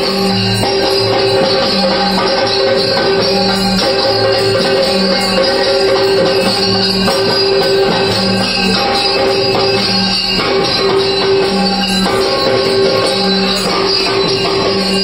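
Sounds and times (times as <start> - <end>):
jingling percussion: 0.0 - 15.0
live festival music: 0.0 - 15.0.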